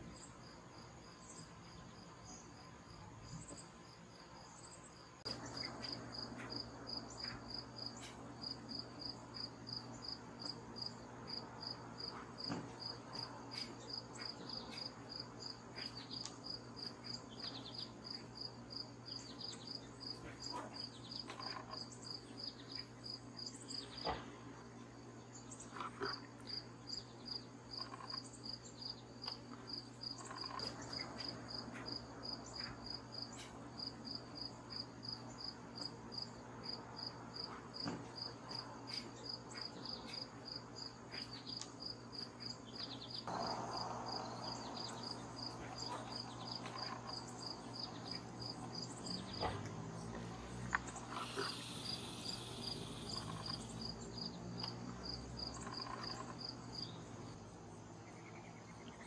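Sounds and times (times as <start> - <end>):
crickets chirping: 0.0 - 59.0
low steady hum: 0.0 - 59.0.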